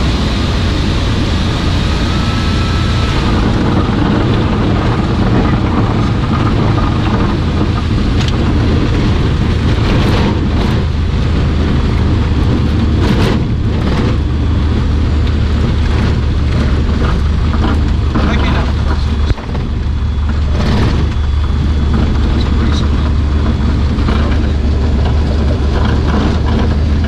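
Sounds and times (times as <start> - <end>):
airflow and rumble: 0.0 - 27.0
propeller plane engine drone: 0.0 - 27.0.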